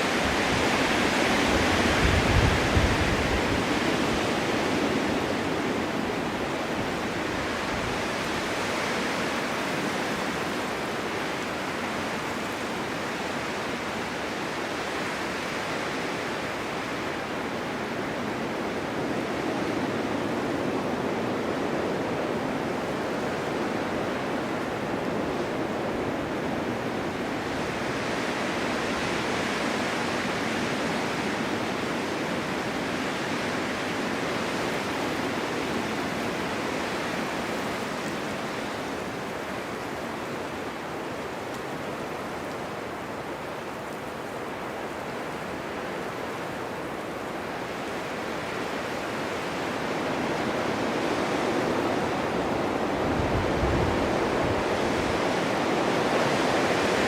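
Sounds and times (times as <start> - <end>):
low rumble of wind gust: 0.0 - 9.0, 17.5 - 57.0
blizzard wind blowing snow: 0.0 - 57.0.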